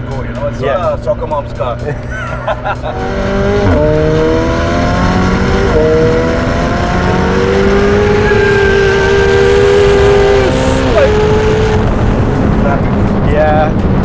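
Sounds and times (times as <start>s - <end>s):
sports car accelerating hard: 0.0s - 14.0s.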